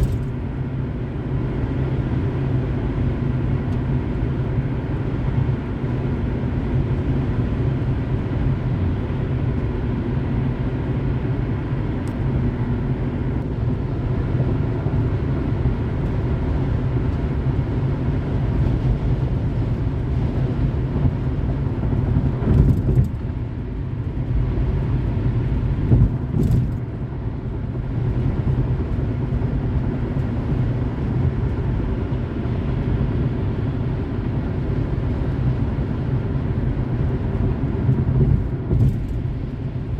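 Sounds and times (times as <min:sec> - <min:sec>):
car tyres and engine rumbling: 0:00.0 - 0:39.9.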